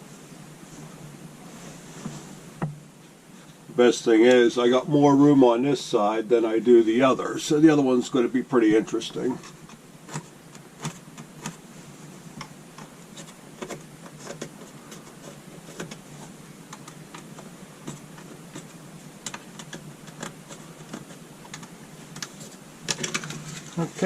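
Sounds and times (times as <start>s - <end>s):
faint steady background noise: 0.0s - 24.0s.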